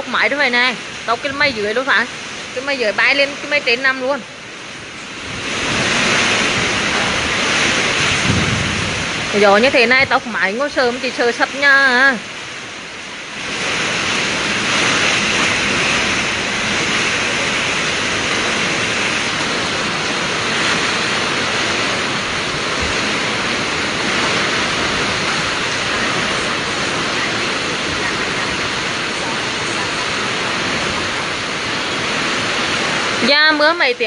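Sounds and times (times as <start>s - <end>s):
wind and heavy rain: 0.0s - 34.0s.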